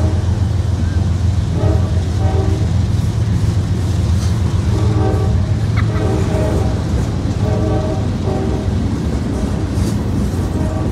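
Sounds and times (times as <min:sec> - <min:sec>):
freight train cars rumbling: 0:00.0 - 0:10.9.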